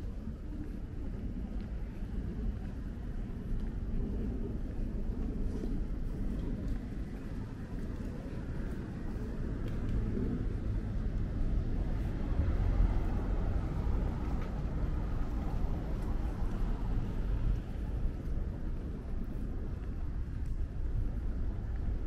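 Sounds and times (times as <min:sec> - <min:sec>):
low traffic rumble: 0:00.0 - 0:22.0.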